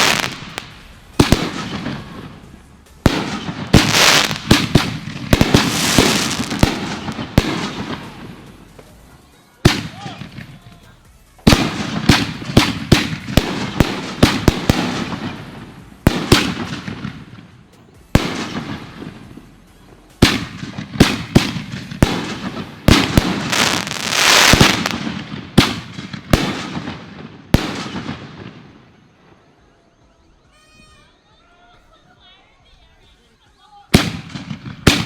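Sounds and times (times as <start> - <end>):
fireworks bangs: 0.0 - 29.1, 33.9 - 35.0
fireworks crackling: 0.0 - 29.5, 32.6 - 35.0.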